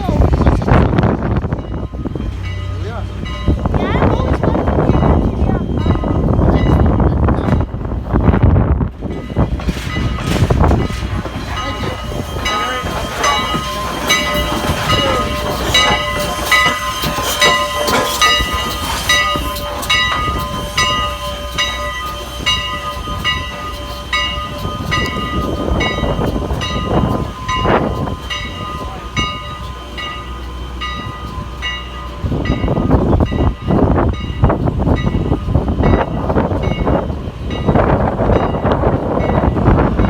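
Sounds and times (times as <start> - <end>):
train rumbling: 0.0 - 40.0
locomotive bell ringing: 0.1 - 40.0.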